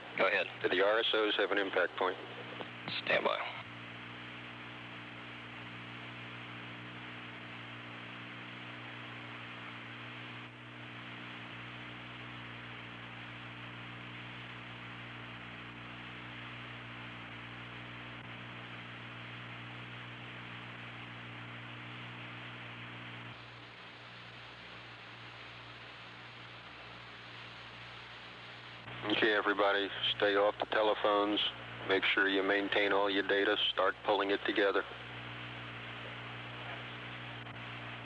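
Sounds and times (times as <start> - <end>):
low electrical mains hum: 0.0 - 38.0
steady hiss: 0.0 - 38.0.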